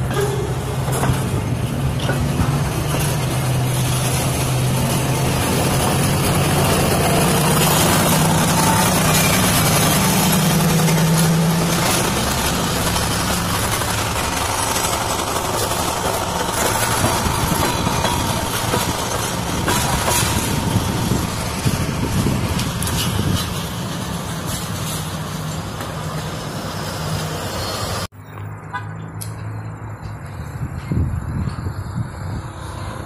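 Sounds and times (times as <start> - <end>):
train wheels rumbling on rail: 0.0 - 28.1, 29.2 - 33.0.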